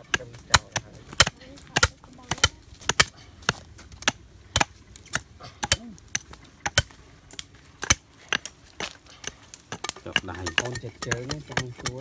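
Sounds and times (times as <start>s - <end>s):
knife chopping wood: 0.0s - 12.0s.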